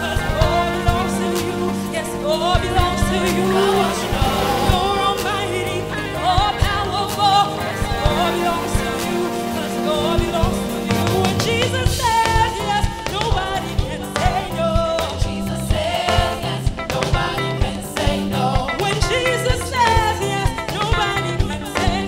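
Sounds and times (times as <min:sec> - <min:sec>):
band with drums bass guitars: 0:00.0 - 0:22.0
woman singing into microphone: 0:00.0 - 0:22.0.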